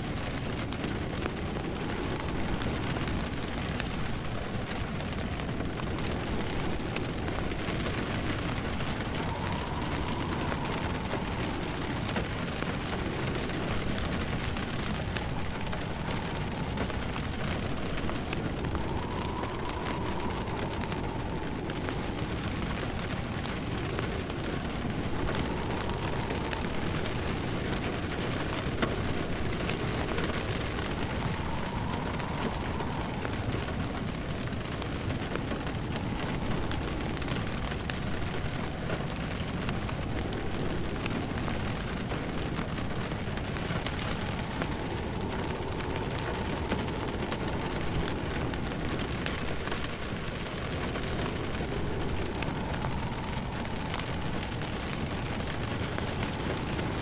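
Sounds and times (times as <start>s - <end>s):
faint wind howling: 0.0s - 57.0s
rain pattering: 0.0s - 57.0s
wood fire crackling: 0.0s - 57.0s.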